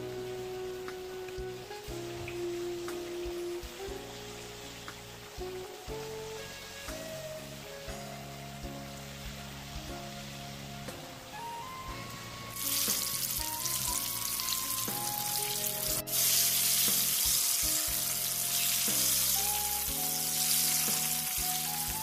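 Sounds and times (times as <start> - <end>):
background music: 0.0 - 22.0
batter deep-frying in oil: 0.0 - 22.0.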